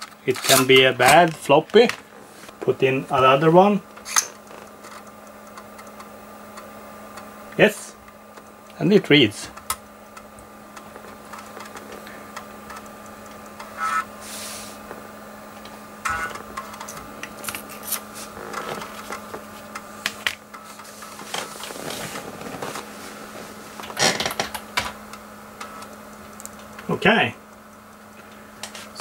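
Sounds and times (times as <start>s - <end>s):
floppy drive stepper buzzing: 0.0s - 29.0s
steady low hum: 0.0s - 29.0s.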